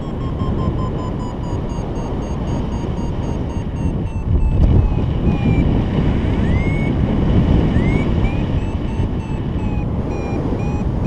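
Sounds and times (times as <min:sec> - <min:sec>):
variometer beeping: 0:00.0 - 0:11.0
wind on microphone: 0:00.0 - 0:11.0.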